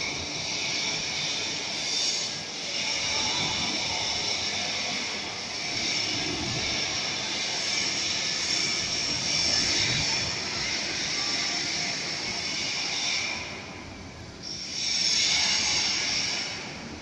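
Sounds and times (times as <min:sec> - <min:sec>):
welding machine hissing: 0:00.0 - 0:17.0.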